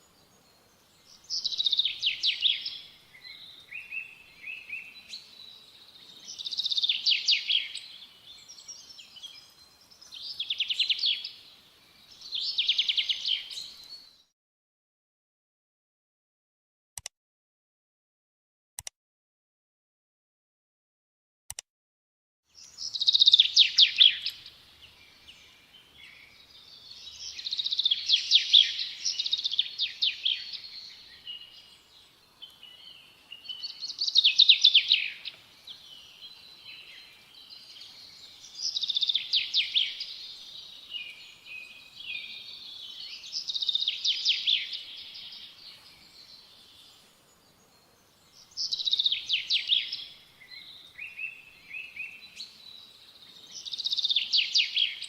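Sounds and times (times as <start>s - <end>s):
quiet bird chirps: 0.0s - 14.3s, 22.5s - 55.0s
songbird singing: 0.0s - 14.3s, 22.5s - 55.0s.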